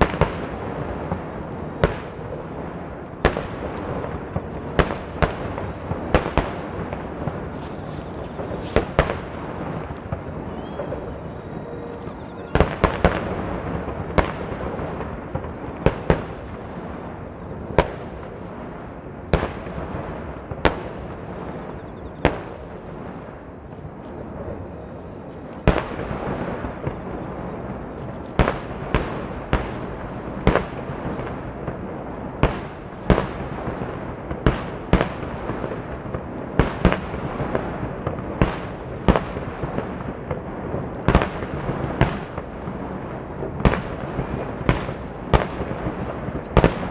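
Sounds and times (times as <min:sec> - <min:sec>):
fireworks booming: 0:00.0 - 0:46.9
fireworks crackling and rumbling: 0:00.0 - 0:46.9.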